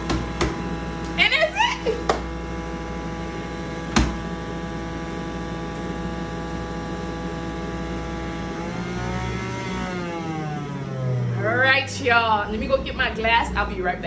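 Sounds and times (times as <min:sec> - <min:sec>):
juicer motor whining: 0:00.0 - 0:12.8.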